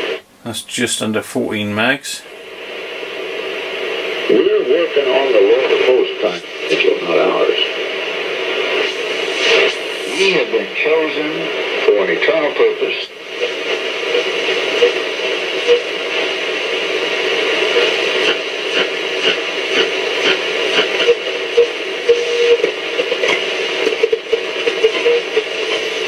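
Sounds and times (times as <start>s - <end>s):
radio crackles: 0.0s - 26.0s
radio static hiss: 0.0s - 26.0s
radio whistles: 2.6s - 26.0s.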